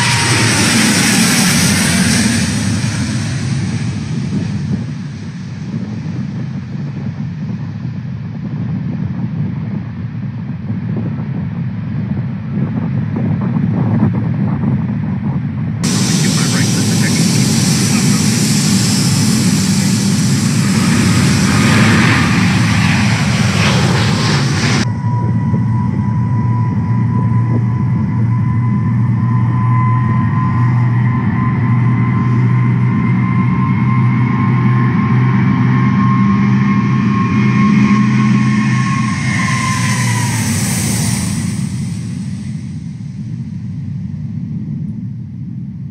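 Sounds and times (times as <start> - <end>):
jet engines at takeoff: 0.0 - 45.9.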